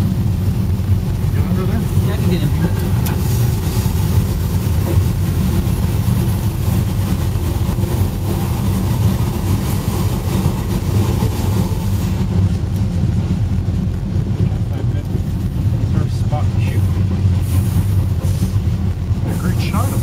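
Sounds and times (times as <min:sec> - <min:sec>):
vehicle rumble from inside: 0:00.0 - 0:20.0.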